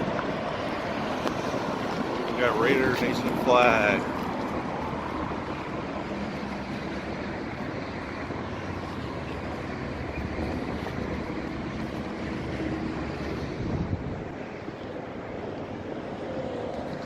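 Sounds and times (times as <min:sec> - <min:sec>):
road traffic hum: 0:00.0 - 0:17.0
wind noise on microphone: 0:00.0 - 0:17.0.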